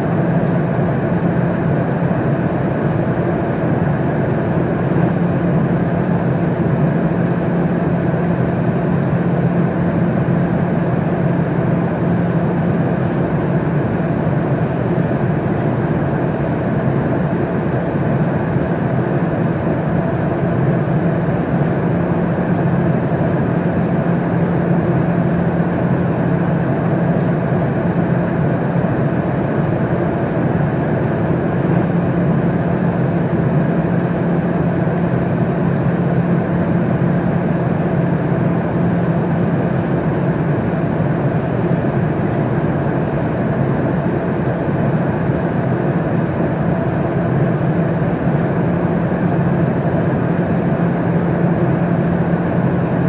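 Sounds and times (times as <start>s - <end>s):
airplane cabin noise: 0.0s - 53.0s.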